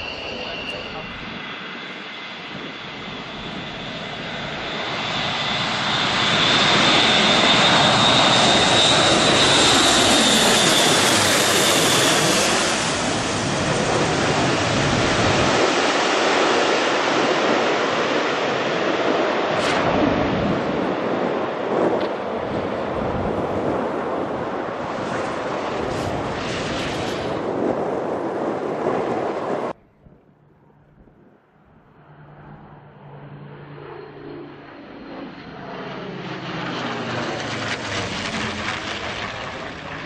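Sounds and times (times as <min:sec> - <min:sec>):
high turbine whine: 0:00.0 - 0:40.0
propeller drone: 0:00.0 - 0:40.0.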